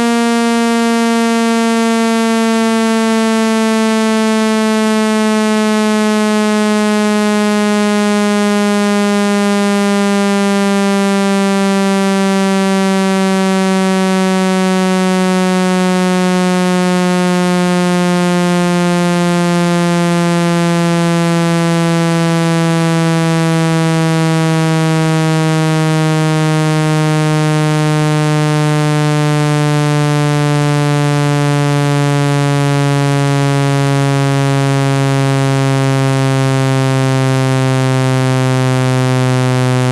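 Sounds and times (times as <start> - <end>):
buzzy low gliding tone: 0.0 - 39.9.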